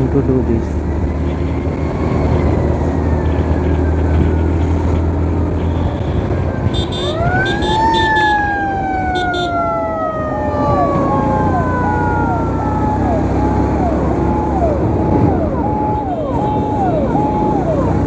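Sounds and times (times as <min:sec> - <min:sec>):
emergency siren wailing: 0:00.0 - 0:18.0
motorcycle engine drone: 0:00.0 - 0:18.0
road noise: 0:00.0 - 0:18.0.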